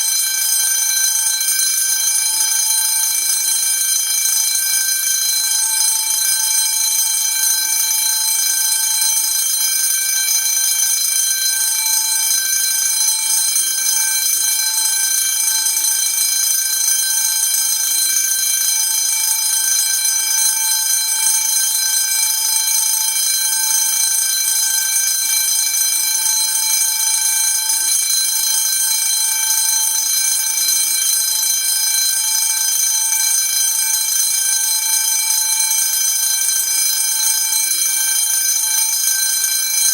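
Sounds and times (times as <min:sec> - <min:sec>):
fire alarm bell ringing: 0:00.0 - 0:39.9.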